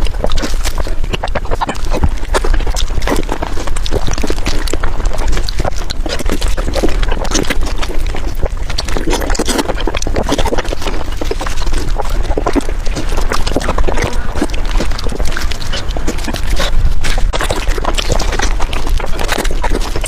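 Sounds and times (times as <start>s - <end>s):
wet chewing and smacking: 0.0s - 20.0s.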